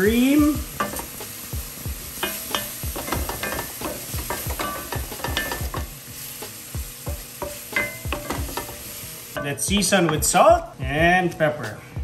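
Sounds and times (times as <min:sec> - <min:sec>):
sauce sizzling: 0:00.0 - 0:11.2.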